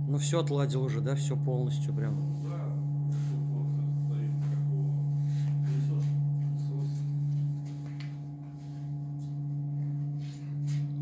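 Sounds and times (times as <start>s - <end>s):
milling machine low electric hum: 0.0s - 11.0s.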